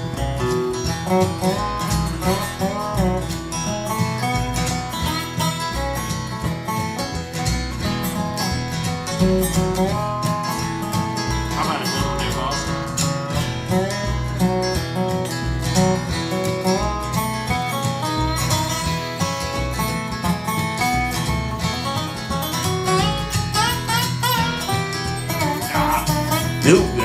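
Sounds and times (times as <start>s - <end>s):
acoustic guitar strumming: 0.0s - 27.0s
walking upright bass: 0.0s - 27.0s.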